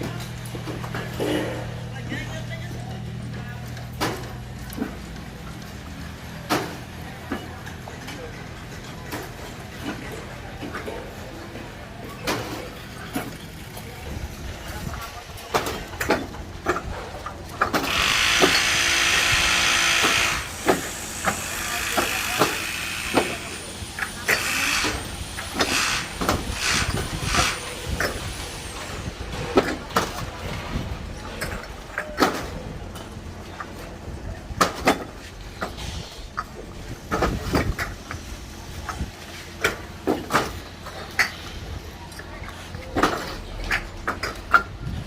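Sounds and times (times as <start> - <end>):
heavy machinery engine rumbling: 0.0 - 45.0.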